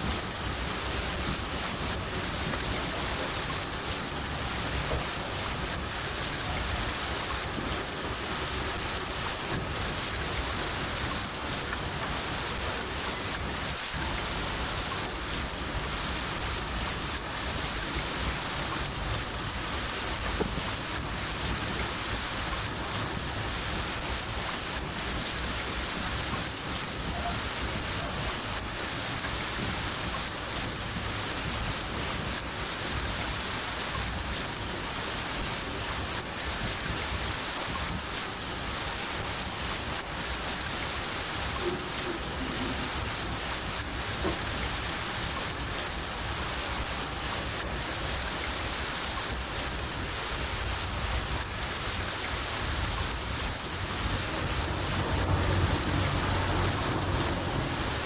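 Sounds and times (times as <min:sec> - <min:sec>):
cricket chirping: 0:00.0 - 0:58.0
rain falling: 0:00.0 - 0:58.0.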